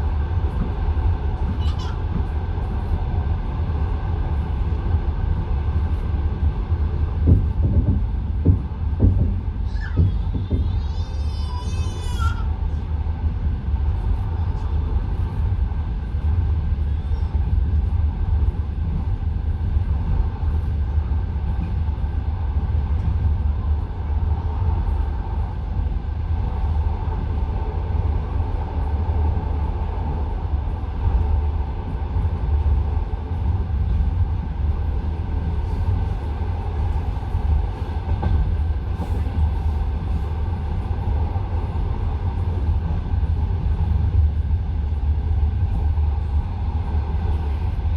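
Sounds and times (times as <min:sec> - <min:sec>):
train carriage low rumble: 0:00.0 - 0:47.9.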